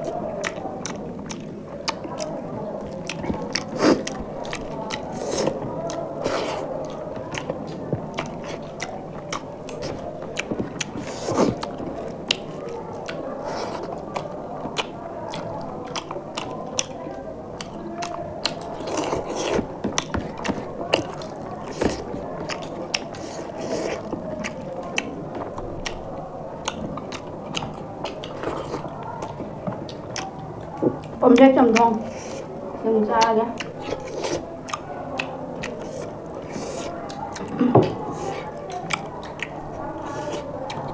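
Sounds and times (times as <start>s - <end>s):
chewing mouthfuls of food: 0.0s - 40.9s.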